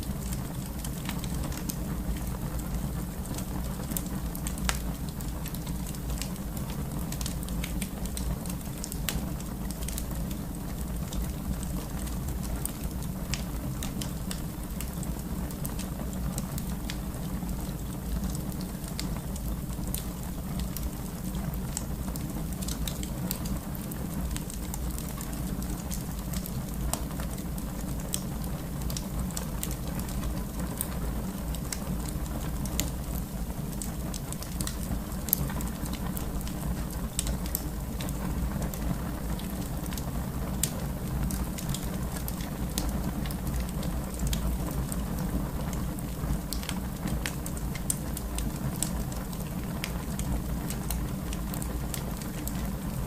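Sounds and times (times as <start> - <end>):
fire crackling in fireplace: 0.0 - 53.0.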